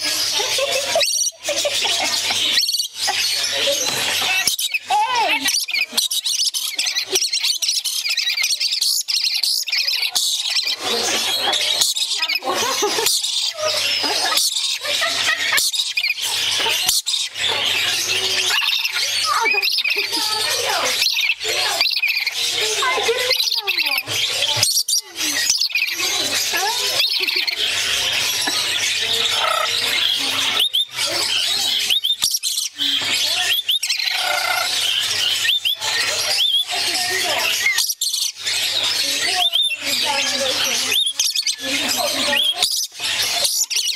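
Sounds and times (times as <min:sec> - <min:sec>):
lorikeets screeching and chattering: 0:00.0 - 0:43.9.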